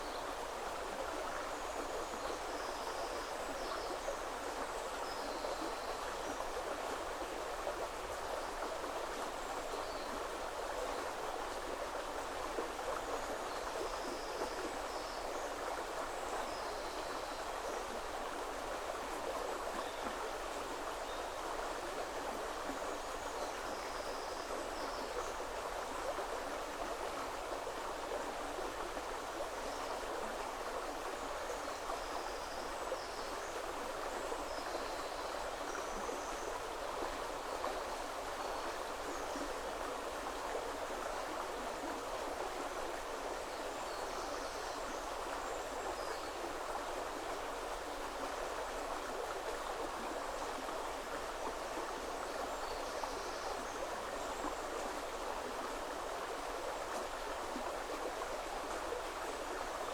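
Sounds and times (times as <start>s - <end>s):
river flowing over stones: 0.1s - 59.9s.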